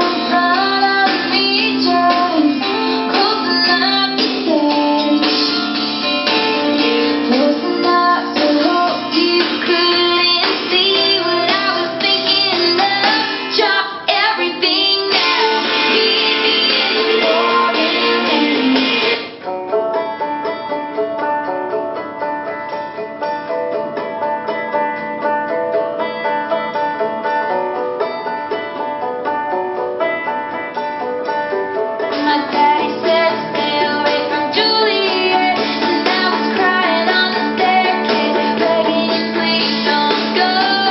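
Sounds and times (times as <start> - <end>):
plucked string music on small speaker: 0.0 - 40.9.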